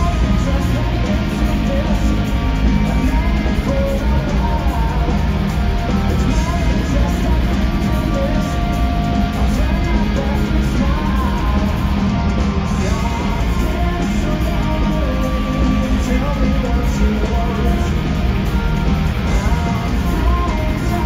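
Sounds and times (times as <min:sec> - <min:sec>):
man singing: 0:00.0 - 0:12.1, 0:12.7 - 0:18.3, 0:19.2 - 0:21.0
rock band playing: 0:00.0 - 0:21.0.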